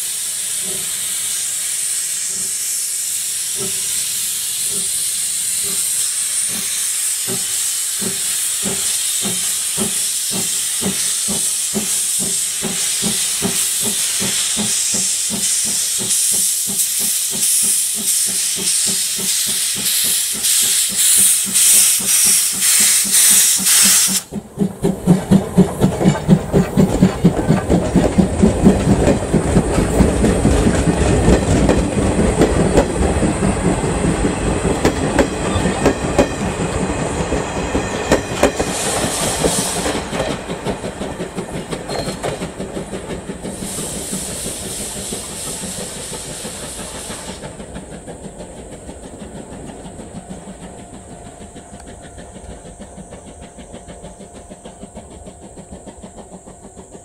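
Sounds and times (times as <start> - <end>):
steam hissing: 0.0 - 57.0
steam locomotive exhaust beats: 0.0 - 57.0
train wheel clatter: 0.0 - 57.0.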